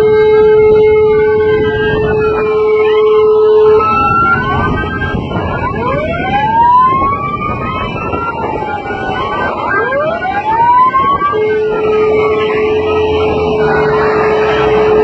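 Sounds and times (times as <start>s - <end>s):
dense background rumble: 0.0s - 15.0s
sirens wailing: 0.0s - 15.0s.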